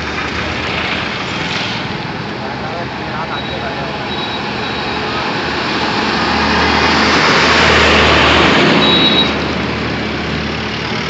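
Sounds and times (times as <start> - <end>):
road traffic: 0.0 - 11.0
vehicle engine: 0.0 - 11.0.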